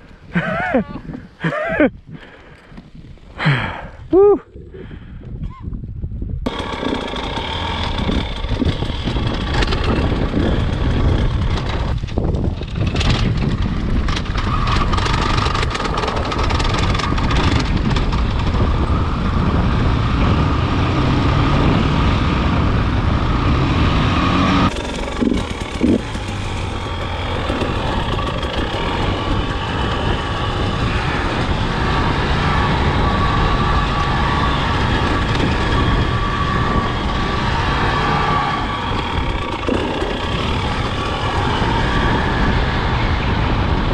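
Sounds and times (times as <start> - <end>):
wind noise on microphone: 0.0 - 43.9
dirt bike engine under throttle: 6.4 - 43.9.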